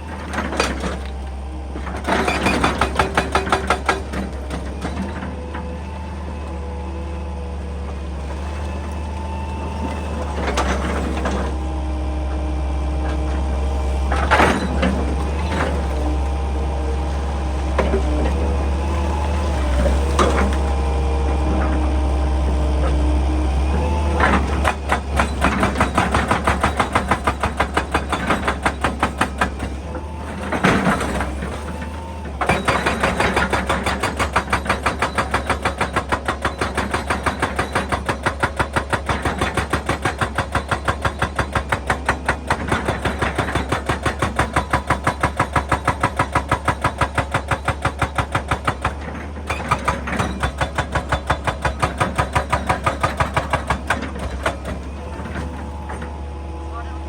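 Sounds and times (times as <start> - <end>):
excavator engine humming: 0.0 - 57.0
hydraulic breaker hammering rock: 0.1 - 5.8, 9.7 - 11.7, 13.0 - 23.0, 23.6 - 57.0.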